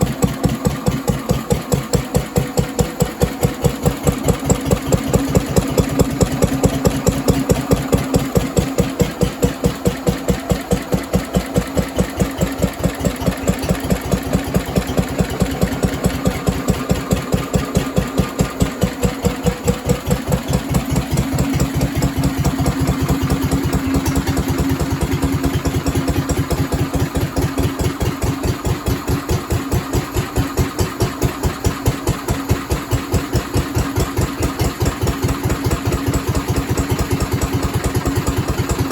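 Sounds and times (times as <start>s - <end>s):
stationary engine thumping: 0.0s - 38.9s.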